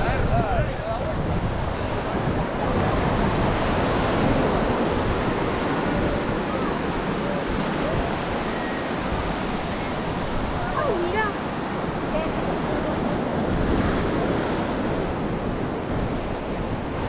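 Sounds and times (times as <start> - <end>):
faint voices: 0.0 - 15.8
ocean surf washing onto beach: 0.0 - 17.0
wind buffeting microphone: 0.0 - 17.0.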